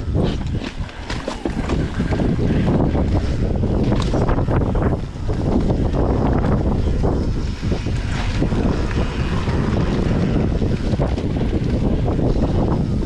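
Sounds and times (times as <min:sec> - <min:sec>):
bike tyres rumbling on dirt trail: 0:00.0 - 0:13.0
wind buffeting microphone: 0:00.0 - 0:13.0.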